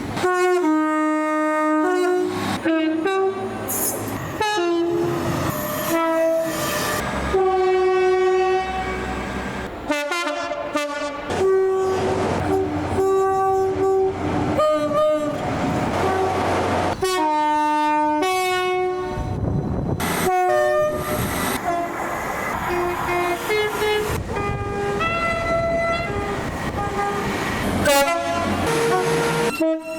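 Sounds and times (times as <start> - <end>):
train horn blasts: 0.2 - 3.6, 4.3 - 19.4, 20.2 - 22.0, 22.7 - 29.9.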